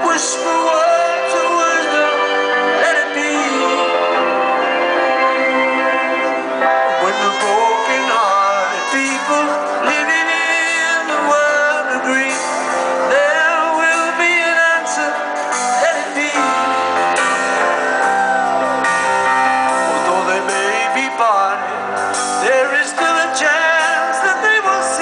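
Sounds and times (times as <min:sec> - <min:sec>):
man singing: 0:00.0 - 0:18.9, 0:19.6 - 0:25.0
live rock music through speakers: 0:00.0 - 0:25.0.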